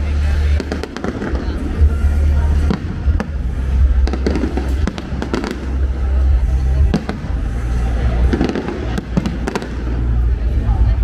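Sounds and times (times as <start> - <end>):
fireworks bangs and cracks: 0.0 - 10.5
continuous low rumble: 0.0 - 11.0.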